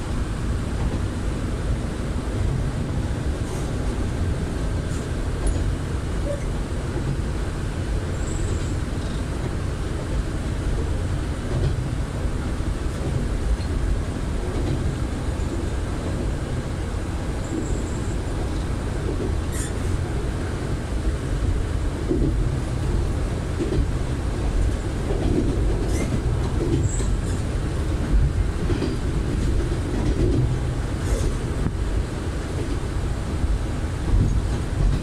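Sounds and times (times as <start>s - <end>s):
railcar engine and wheels on rail: 0.0s - 35.0s.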